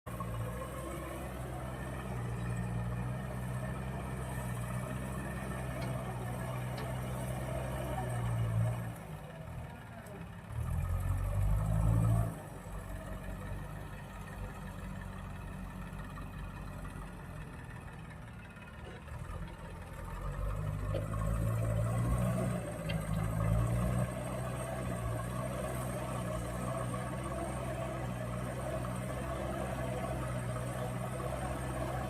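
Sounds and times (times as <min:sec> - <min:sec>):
digger diesel engine running: 0:00.1 - 0:32.0.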